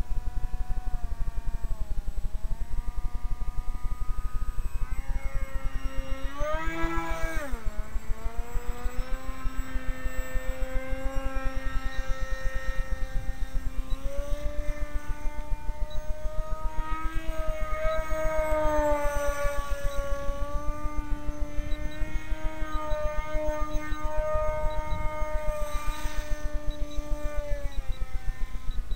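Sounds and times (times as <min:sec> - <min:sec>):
model boat motor whine: 0:00.0 - 0:28.9
rapid low pulsing: 0:00.0 - 0:28.9.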